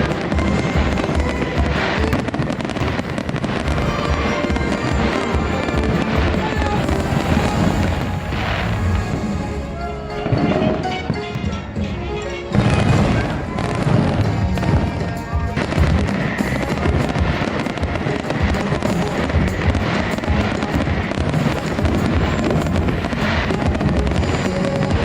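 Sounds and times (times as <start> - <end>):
fireworks bursting and crackling: 0.0 - 11.7, 12.5 - 25.0
show music: 0.0 - 25.0.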